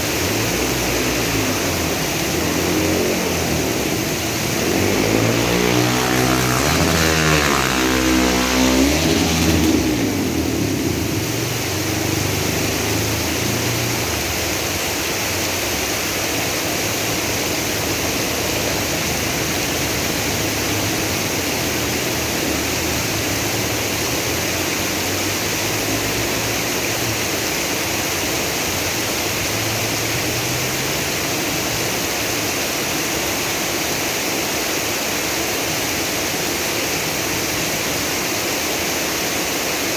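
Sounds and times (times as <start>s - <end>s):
vehicle engine passing: 0.0s - 33.6s
flowing floodwater: 0.0s - 39.9s
heavy rain: 0.0s - 39.9s.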